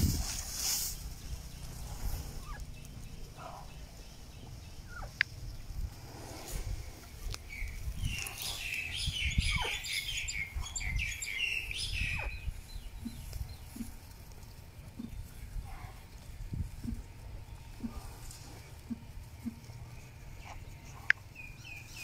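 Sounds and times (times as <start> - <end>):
birds chirping and chattering: 0.0 - 22.0
elephant rustling grass: 0.0 - 22.0.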